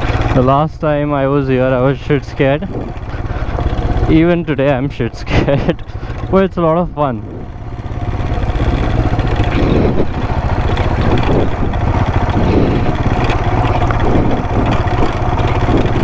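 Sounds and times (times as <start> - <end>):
motorcycle engine running: 0.0 - 16.0
rough ride over stones: 0.0 - 16.0.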